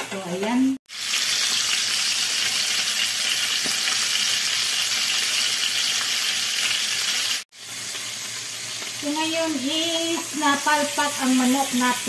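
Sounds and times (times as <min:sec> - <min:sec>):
chicken sizzling in hot oil: 0:00.2 - 0:12.0.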